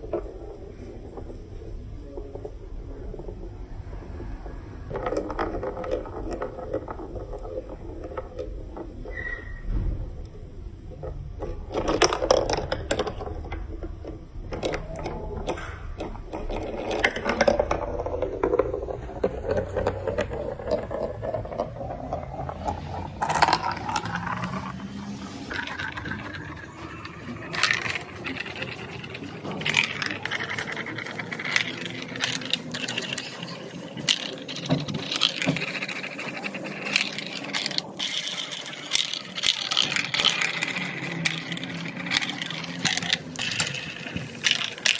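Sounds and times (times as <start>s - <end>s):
marbles rolling in marble run: 0.0s - 44.9s
marbles clicking against pieces: 4.9s - 9.2s, 10.9s - 44.9s.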